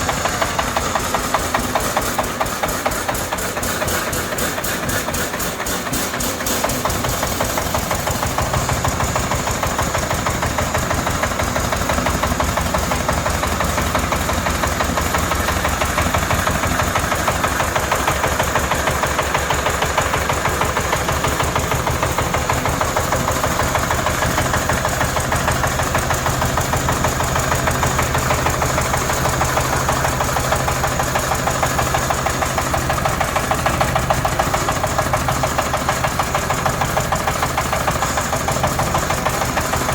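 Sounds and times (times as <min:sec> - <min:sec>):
excavator engine clattering: 0:00.0 - 0:39.9.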